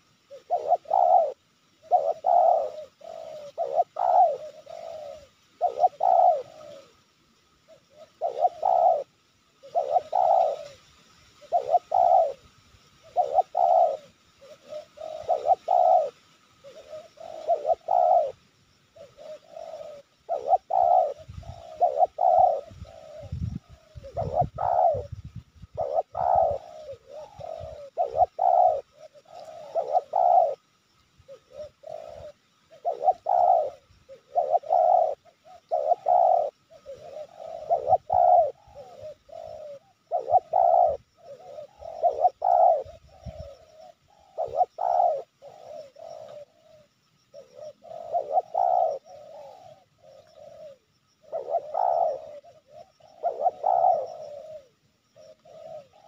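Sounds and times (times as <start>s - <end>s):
dove cooing: 0.0s - 10.8s, 11.4s - 56.0s.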